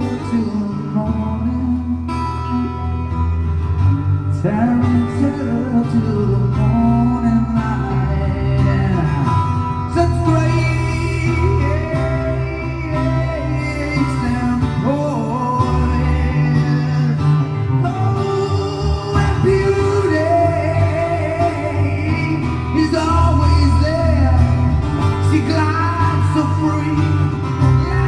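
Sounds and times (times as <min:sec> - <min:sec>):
song with guitar and singing: 0:00.0 - 0:28.0.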